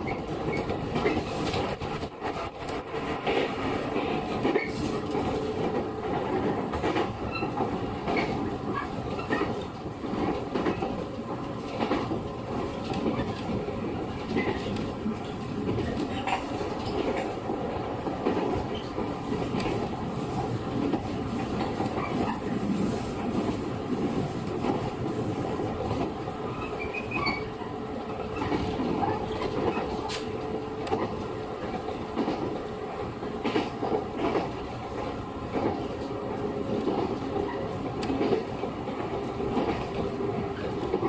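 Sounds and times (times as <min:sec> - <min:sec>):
train wheels and motors rumbling: 0:00.0 - 0:41.0.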